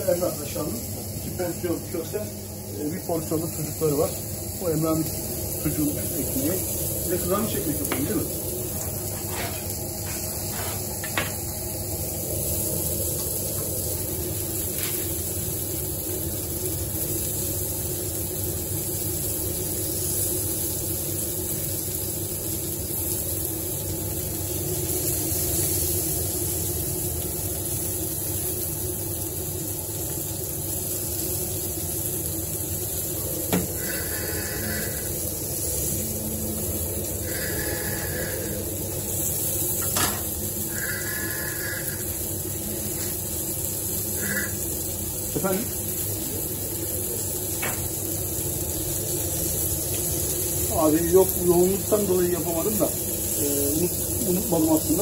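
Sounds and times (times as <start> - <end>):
low kitchen hum: 0.0 - 55.0
meat sizzling on a grill: 0.0 - 55.0.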